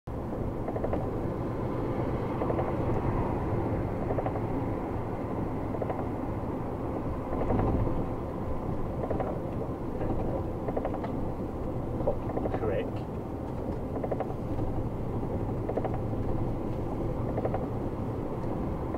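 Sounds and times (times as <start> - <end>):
truck engine drone: 0.1 - 18.9
tyre and road rumble: 0.1 - 18.9.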